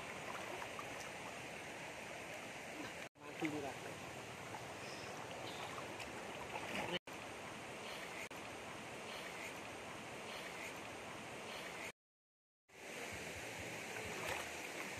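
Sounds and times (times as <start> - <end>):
stream running over rocks: 0.0 - 11.9, 12.7 - 14.9.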